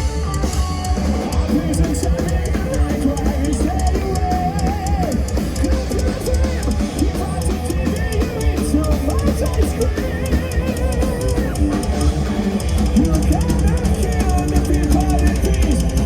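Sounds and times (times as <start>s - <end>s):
heavy metal band playing live: 0.0s - 16.0s
pounding drum kit: 0.0s - 16.0s
wavering lead guitar line: 0.0s - 16.0s.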